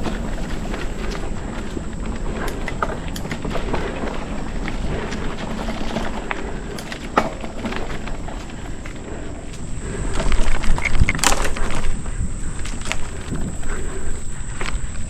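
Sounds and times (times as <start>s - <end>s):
bike rattles and clicks: 0.0s - 15.0s
bike tyres rumbling on dirt: 0.0s - 15.0s.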